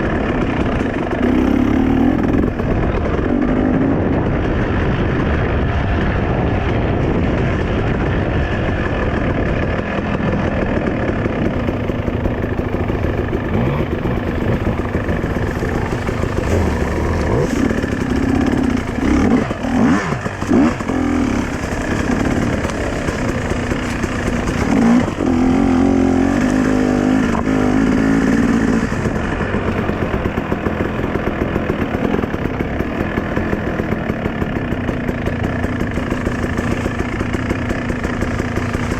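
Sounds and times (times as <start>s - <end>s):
dirt bike engine revving: 0.0s - 4.7s, 8.9s - 38.9s.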